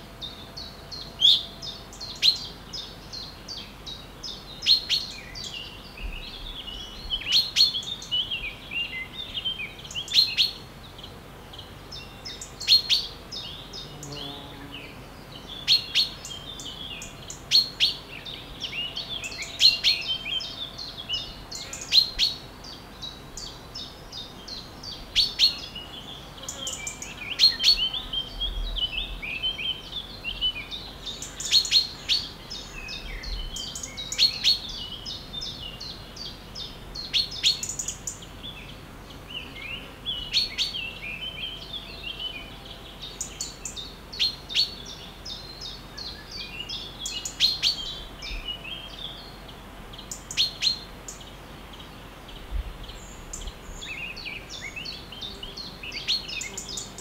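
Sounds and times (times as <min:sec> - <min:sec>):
birds chirping and singing: 0:00.0 - 0:57.0
faint background hiss: 0:00.0 - 0:57.0.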